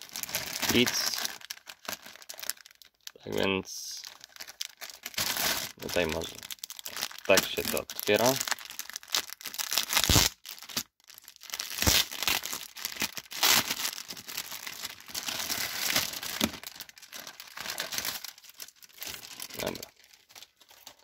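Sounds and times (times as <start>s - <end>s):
plastic bag tearing and crinkling: 0.0s - 21.0s.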